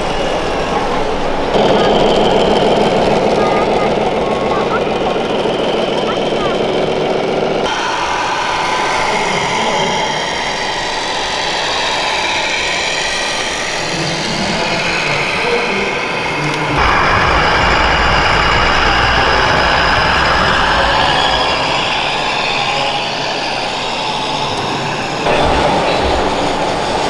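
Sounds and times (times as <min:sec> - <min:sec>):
hum of busy hall: 0:00.0 - 0:27.0
simulated diesel engine sound: 0:00.0 - 0:27.0.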